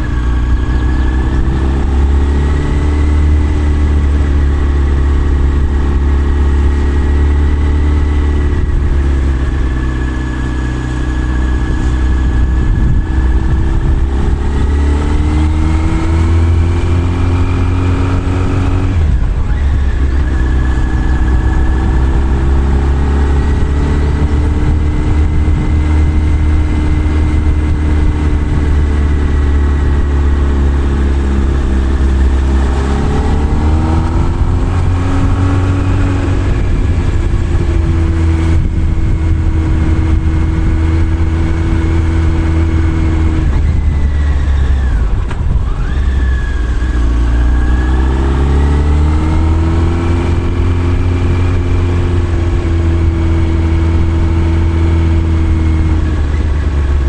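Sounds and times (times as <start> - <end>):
low rumble: 0.0 - 57.0
motorcycle engine running: 0.0 - 57.0.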